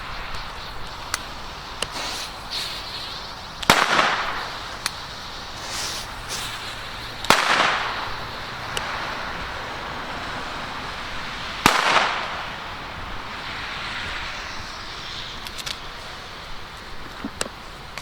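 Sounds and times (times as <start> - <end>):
firecracker bangs: 0.0 - 17.0.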